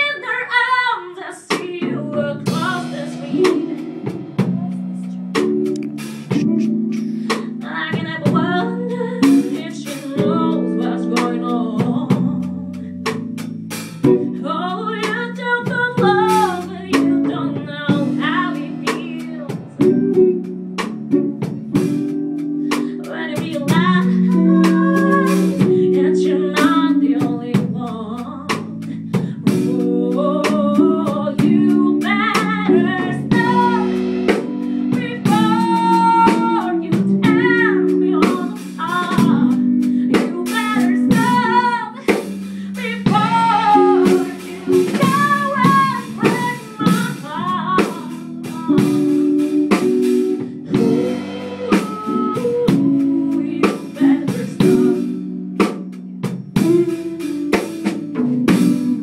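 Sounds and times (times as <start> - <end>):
girl singing into microphone: 0.0 - 13.0, 14.0 - 20.4, 21.1 - 55.7, 56.6 - 59.0
live band playing: 1.5 - 59.0.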